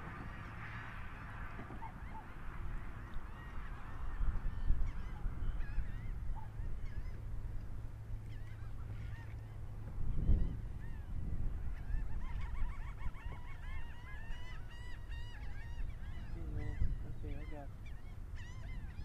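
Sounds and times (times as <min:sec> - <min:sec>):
gulls squawking: 0:00.0 - 0:19.0.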